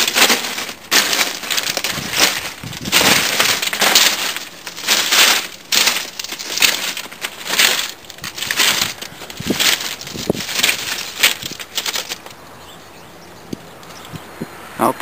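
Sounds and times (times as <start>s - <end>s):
footsteps crunching on gravel: 0.0s - 12.4s.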